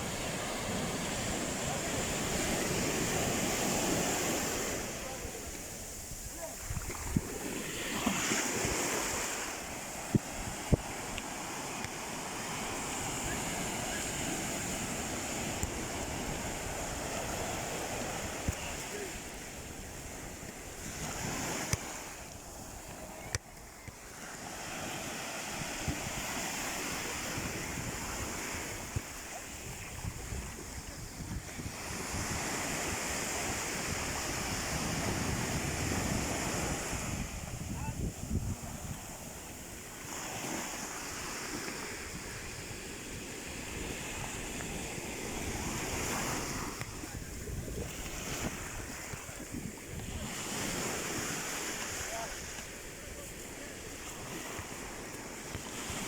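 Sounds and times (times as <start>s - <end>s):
wind buffeting microphone: 0.0s - 23.4s, 25.5s - 40.7s, 41.7s - 51.6s
sea surf washing ashore: 0.0s - 56.0s.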